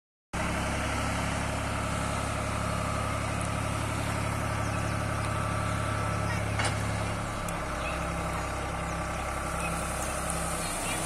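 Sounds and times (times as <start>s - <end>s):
tractor diesel engine running: 0.4s - 11.0s.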